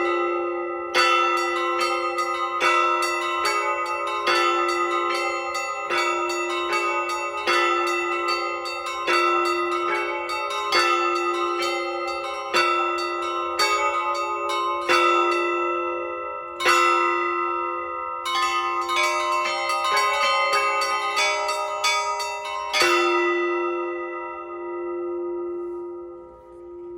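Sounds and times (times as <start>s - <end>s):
large bells heavy strokes: 0.0s - 26.9s.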